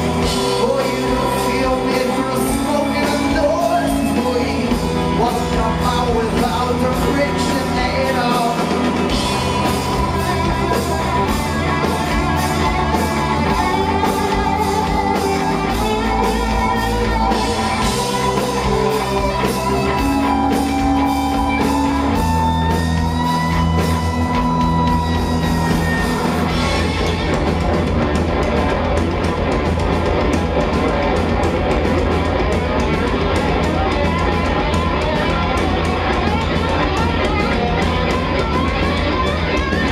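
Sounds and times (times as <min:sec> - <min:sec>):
gliding lead guitar lines: 0:00.0 - 0:39.9
rock band playing live: 0:00.0 - 0:39.9.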